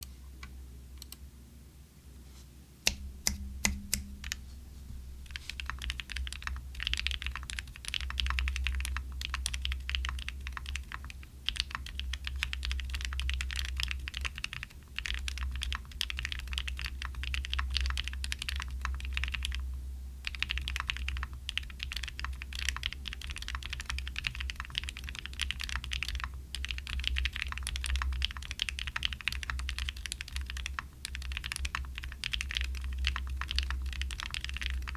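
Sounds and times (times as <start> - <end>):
mechanical keyboard typing: 5.3 - 19.6, 20.2 - 34.9.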